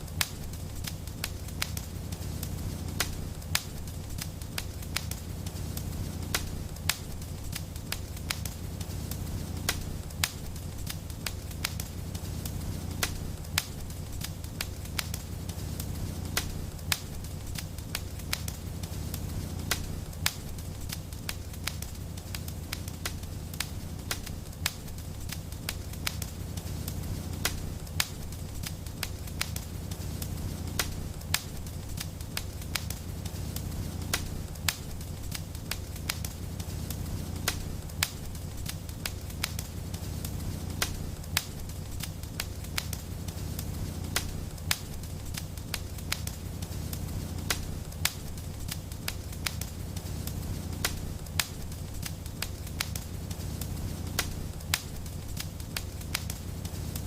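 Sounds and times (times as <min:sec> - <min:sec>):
fire crackling and snapping: 0:00.0 - 0:57.0.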